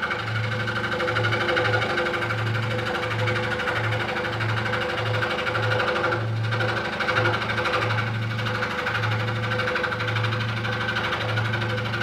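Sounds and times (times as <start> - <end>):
electric scroll saw cutting wood: 0.0 - 12.0.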